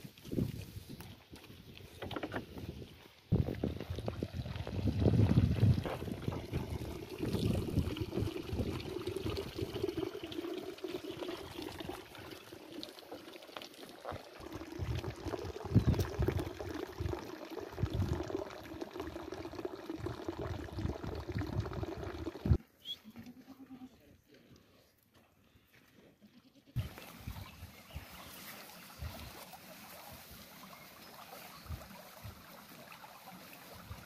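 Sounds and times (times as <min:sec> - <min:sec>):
water pouring and splashing: 0:00.0 - 0:22.6, 0:26.8 - 0:34.0.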